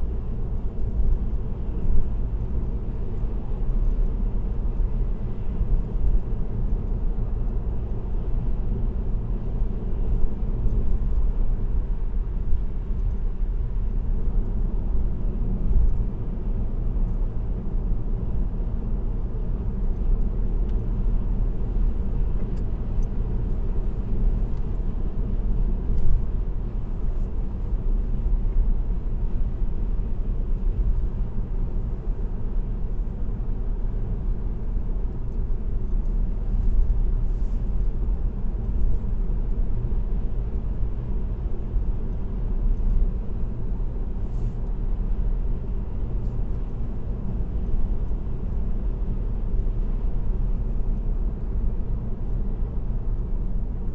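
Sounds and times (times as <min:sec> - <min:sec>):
car tyre and road noise: 0:00.0 - 0:53.9.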